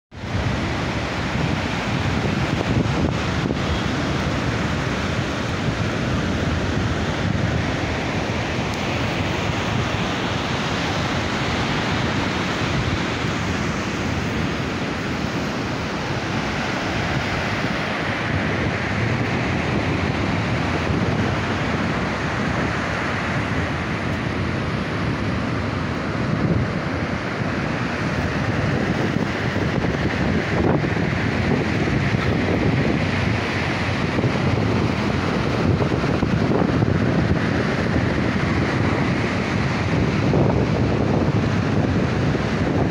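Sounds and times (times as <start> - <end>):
surf breaking on beach: 0.1 - 42.9
wind buffeting microphone: 0.1 - 42.9.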